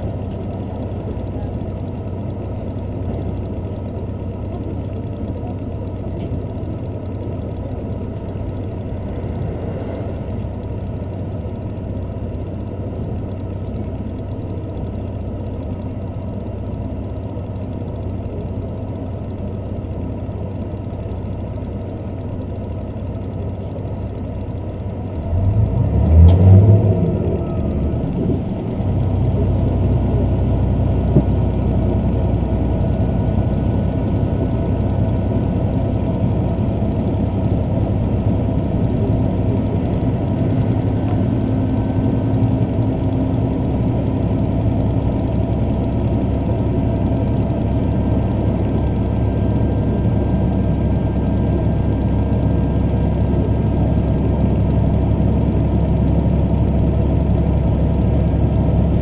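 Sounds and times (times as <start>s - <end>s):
train rumbling on rails: 0.0s - 14.9s, 24.6s - 59.0s.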